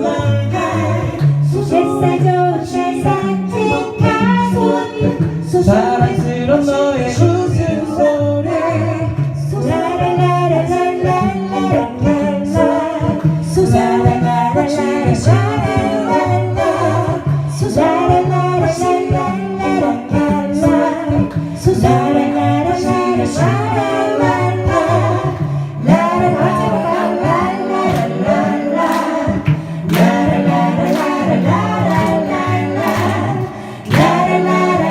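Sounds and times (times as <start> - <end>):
a cappella group singing: 0.0 - 34.9
low sung bass line: 0.0 - 34.9.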